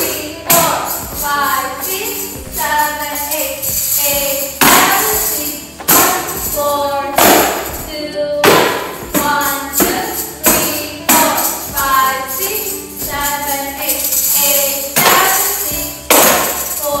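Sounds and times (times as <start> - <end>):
tambourine jingles: 0.0 - 8.0, 8.7 - 17.0
person singing: 0.0 - 17.0.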